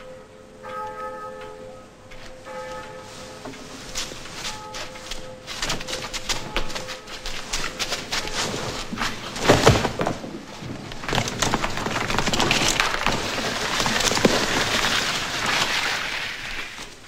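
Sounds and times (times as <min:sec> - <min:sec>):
hurried footsteps and scuffling: 0:00.7 - 0:17.0
wooden knocks and clatter: 0:02.6 - 0:17.0.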